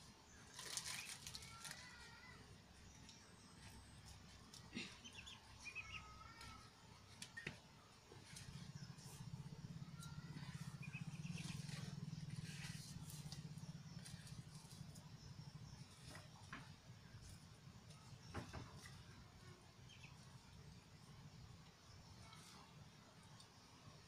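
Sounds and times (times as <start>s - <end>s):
faint bird chirps: 0.3s - 24.0s.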